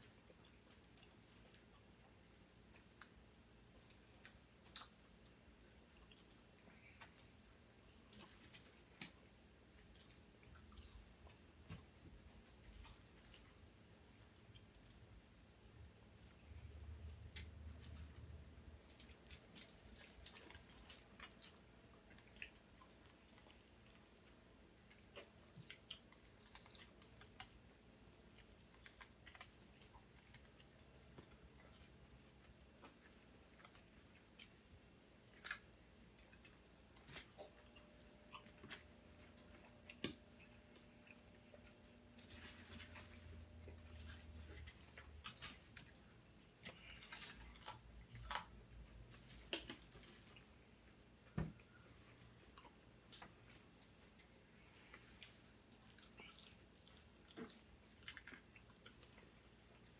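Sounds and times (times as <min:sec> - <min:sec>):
faint chewing clicks: 0:00.0 - 0:59.9.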